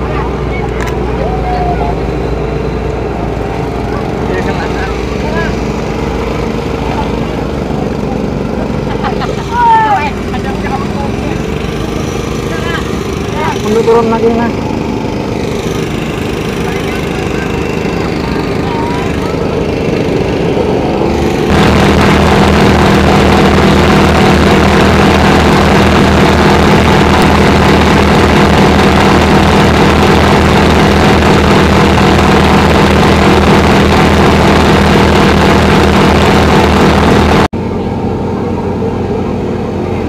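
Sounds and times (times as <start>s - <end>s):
portable pump engine running: 0.0s - 40.0s.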